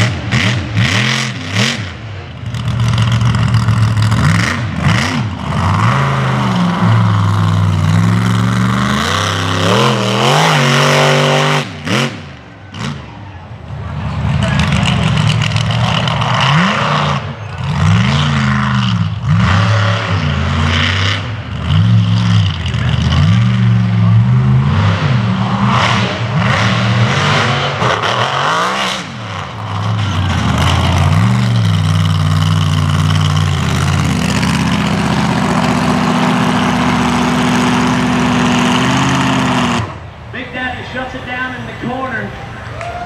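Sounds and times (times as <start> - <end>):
truck engine revving: 0.0 - 42.8.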